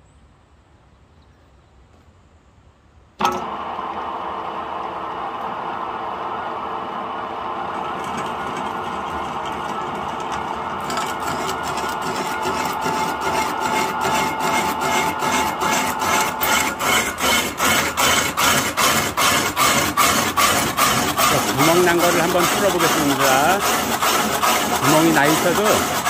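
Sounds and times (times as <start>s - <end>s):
cutter scraping spinning log: 3.2s - 26.0s
wood lathe motor hum: 3.2s - 26.0s.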